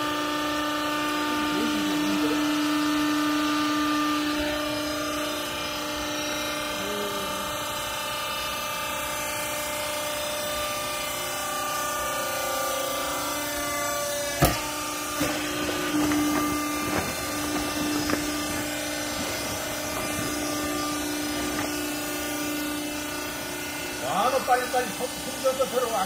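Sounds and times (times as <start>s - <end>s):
hydraulic power unit humming: 0.0s - 26.0s.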